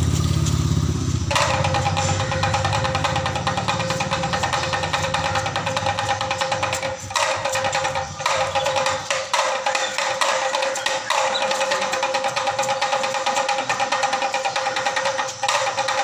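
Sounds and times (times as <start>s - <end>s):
percussion instrument rattling clicks: 1.3s - 16.0s.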